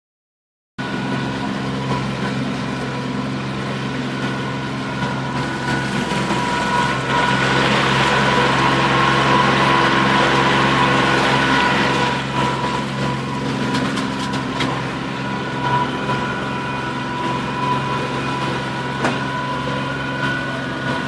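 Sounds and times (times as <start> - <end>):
motorboat engine running: 0.8 - 21.0.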